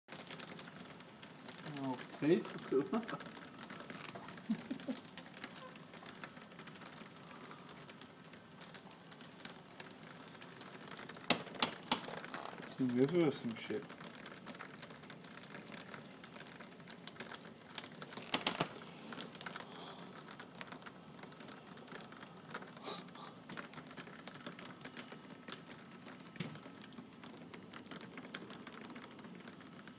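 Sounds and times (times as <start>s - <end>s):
heavy rain pattering: 0.1s - 29.9s.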